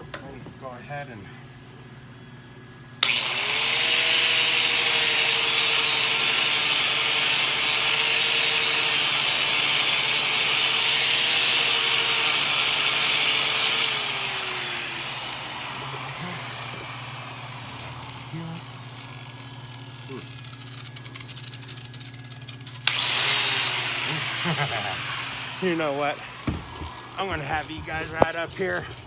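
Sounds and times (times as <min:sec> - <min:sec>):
angle grinder grinding steel: 0:03.0 - 0:29.0.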